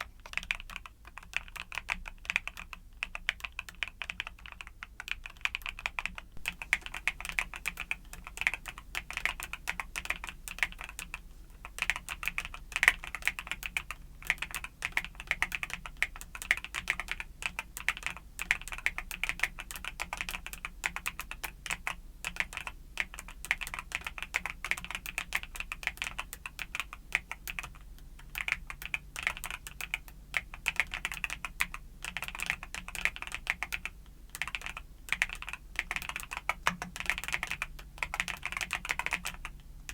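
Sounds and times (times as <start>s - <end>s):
mechanical keyboard typing clicks: 0.0s - 39.9s.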